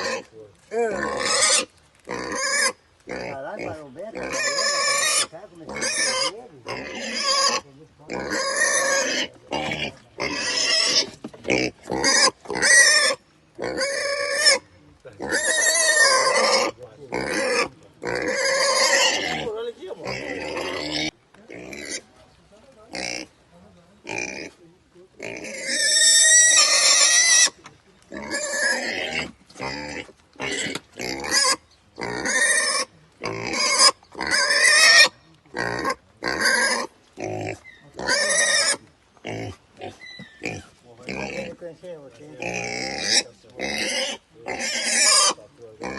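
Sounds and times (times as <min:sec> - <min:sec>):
pig calling harshly: 0:00.0 - 0:22.1, 0:25.2 - 0:41.6, 0:42.4 - 0:45.9.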